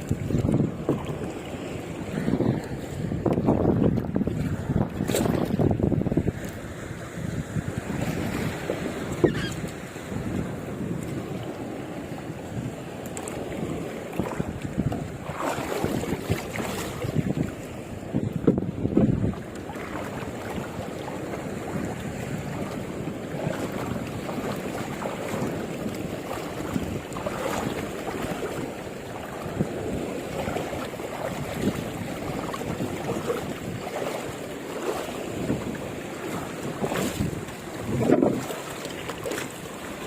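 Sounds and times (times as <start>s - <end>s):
sea water washing: 0.0s - 40.0s
wind buffeting microphone: 0.0s - 40.0s.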